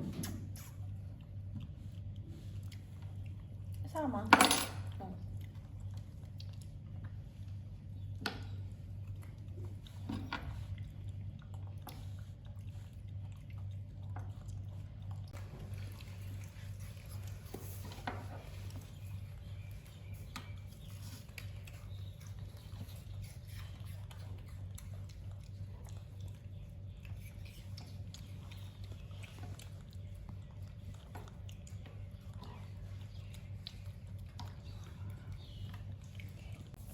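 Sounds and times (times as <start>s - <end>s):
monkey chewing: 5.2s - 36.9s.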